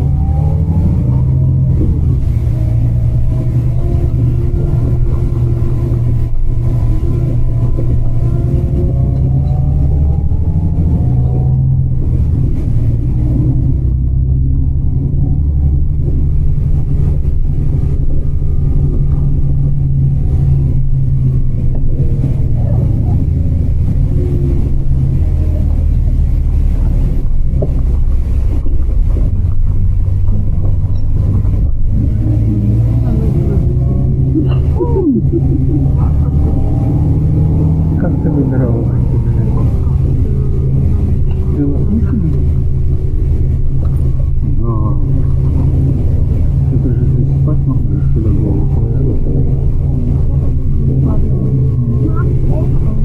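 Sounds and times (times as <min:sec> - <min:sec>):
vehicle rumble from inside: 0:00.0 - 0:53.0
wind buffeting microphone: 0:00.0 - 0:53.0.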